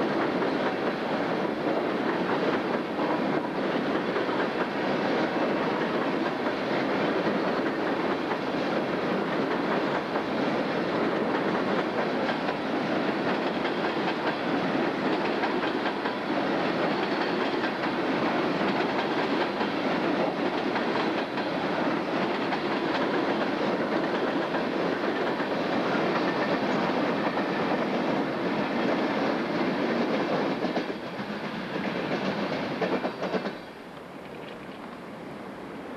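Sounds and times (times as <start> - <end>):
train wheels clattering: 0.0 - 34.7.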